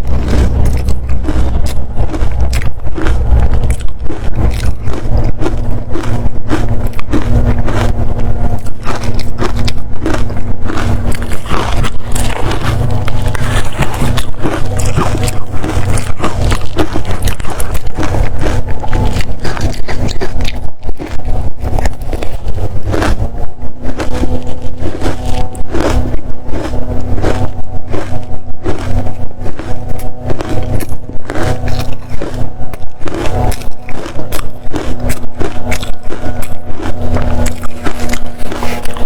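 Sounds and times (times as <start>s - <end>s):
crunching frozen ice: 0.0s - 39.0s.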